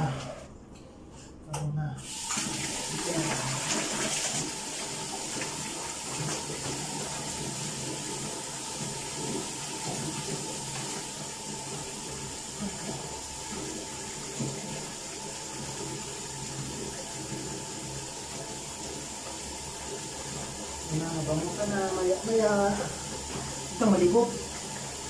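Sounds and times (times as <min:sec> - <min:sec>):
water running: 0:02.0 - 0:25.0.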